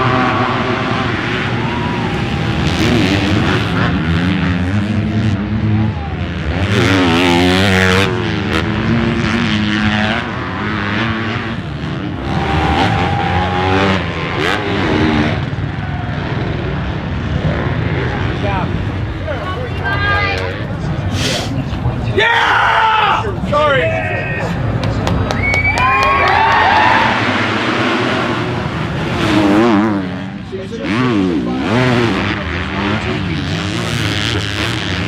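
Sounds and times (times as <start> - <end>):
motocross bikes revving: 0.0 - 22.4, 26.6 - 35.0.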